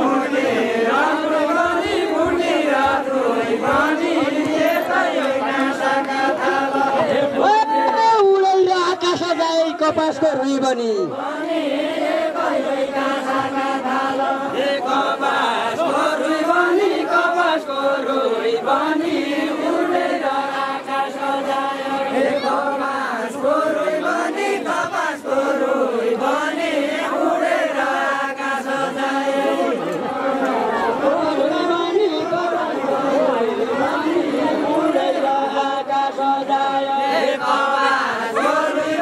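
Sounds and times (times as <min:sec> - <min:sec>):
men singing in unison: 0:00.0 - 0:08.0, 0:11.1 - 0:39.0.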